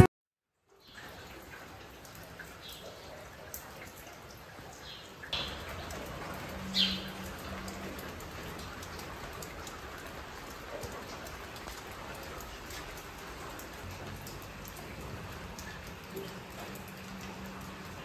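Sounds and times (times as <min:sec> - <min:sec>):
steady rain falling: 0:00.7 - 0:18.0.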